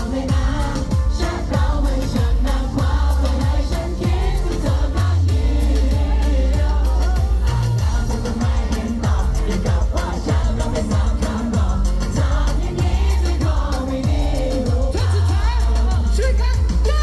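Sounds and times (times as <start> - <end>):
bass and drums: 0.0 - 17.0
man singing: 0.0 - 17.0.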